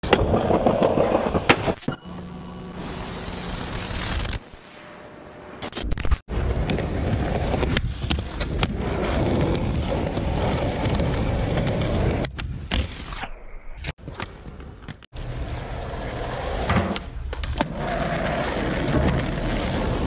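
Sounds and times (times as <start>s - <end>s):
skateboard wheels rolling on concrete: 0.0s - 4.4s, 6.3s - 13.0s, 13.9s - 20.0s.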